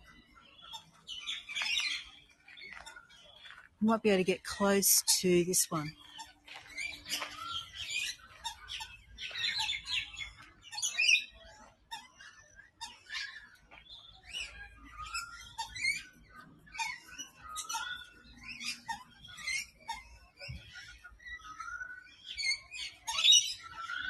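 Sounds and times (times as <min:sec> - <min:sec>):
lorikeets chirping: 0:00.0 - 0:24.0.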